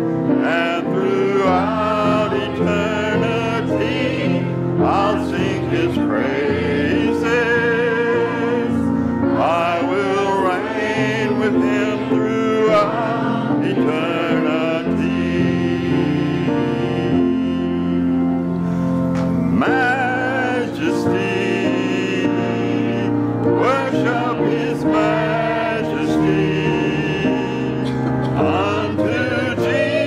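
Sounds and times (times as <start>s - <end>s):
congregation and choir singing hymn: 0.0s - 30.0s
instrumental accompaniment: 0.0s - 30.0s.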